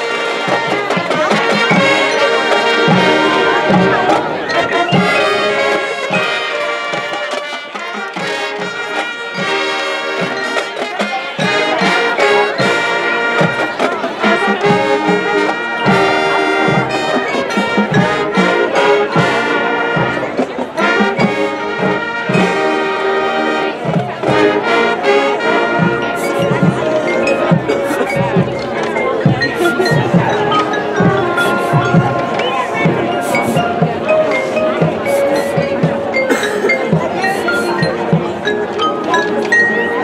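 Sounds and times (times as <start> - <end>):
brass melody: 0.0 - 40.0
marching band playing: 0.0 - 40.0.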